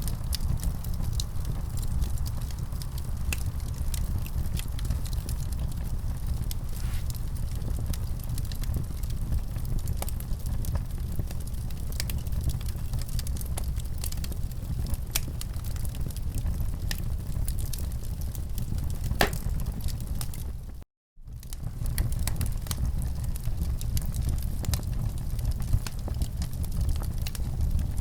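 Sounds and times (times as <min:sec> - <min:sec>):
fire popping and snapping: 0:00.0 - 0:28.0
fireplace low rumble: 0:00.0 - 0:28.0.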